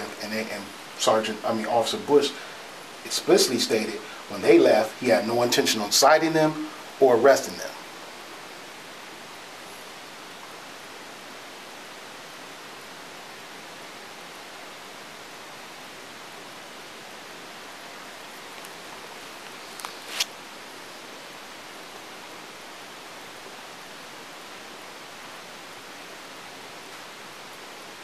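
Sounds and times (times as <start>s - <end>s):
microphone hiss: 0.0s - 28.0s.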